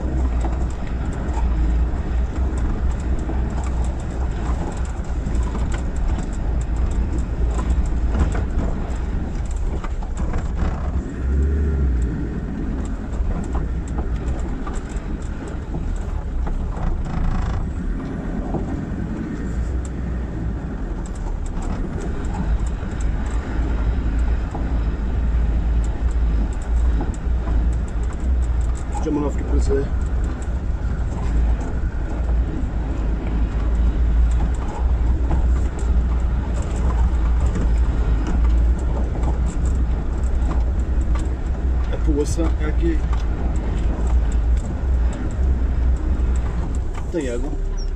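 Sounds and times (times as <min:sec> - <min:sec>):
diesel engine rumbling: 0:00.0 - 0:47.9
vehicle knocks and rattles: 0:00.0 - 0:47.9.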